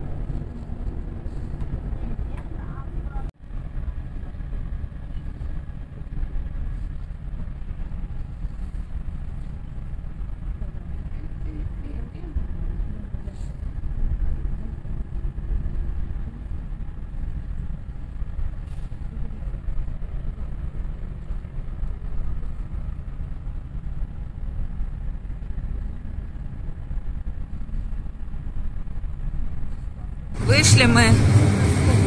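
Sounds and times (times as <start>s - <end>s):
train rumbling on the track: 0.0s - 32.0s.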